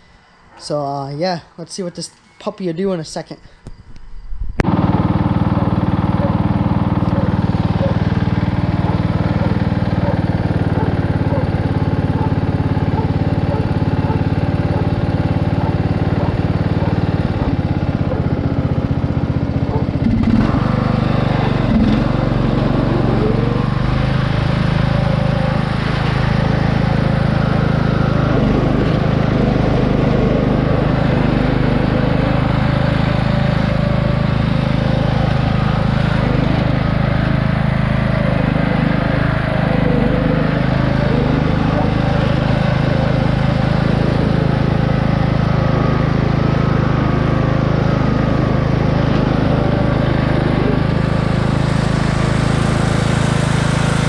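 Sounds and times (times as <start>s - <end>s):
riding lawn mower engine running: 4.6s - 54.0s.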